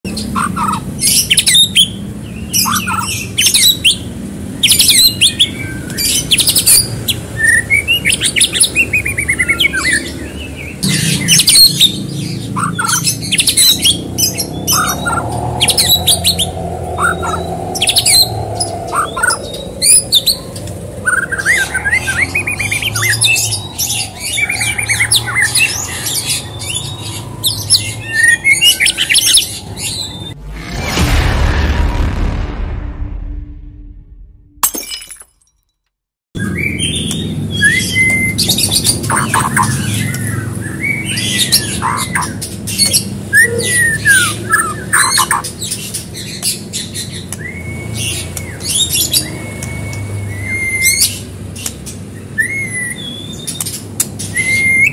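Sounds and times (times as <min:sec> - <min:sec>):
songbird singing: 0:00.1 - 0:30.4, 0:36.4 - 0:54.9.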